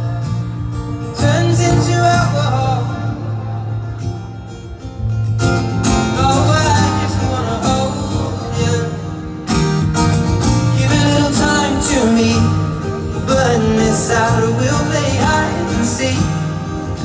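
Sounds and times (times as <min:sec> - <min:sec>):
man singing: 0:00.0 - 0:04.3, 0:05.8 - 0:09.6, 0:10.4 - 0:17.0
acoustic guitar: 0:00.0 - 0:17.0.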